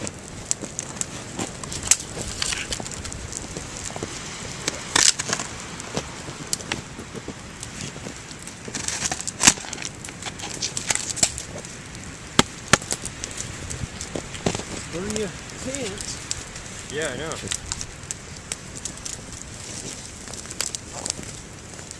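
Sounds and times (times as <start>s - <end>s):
wood fire crackling and popping: 0.0s - 21.9s.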